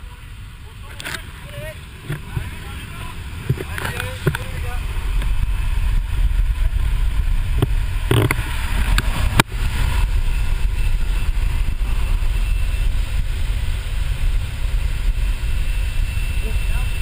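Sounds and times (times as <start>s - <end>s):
plane engine and rushing wind: 0.0s - 17.0s.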